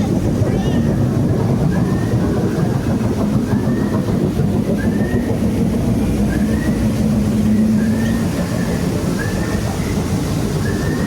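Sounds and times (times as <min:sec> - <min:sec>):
ride machinery rumbling: 0:00.0 - 0:11.0.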